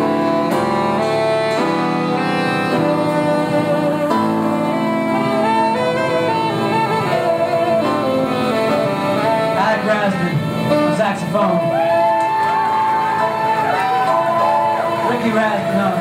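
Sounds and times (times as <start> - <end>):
keyboard: 0.0 - 16.0
saxophones playing: 0.0 - 16.0.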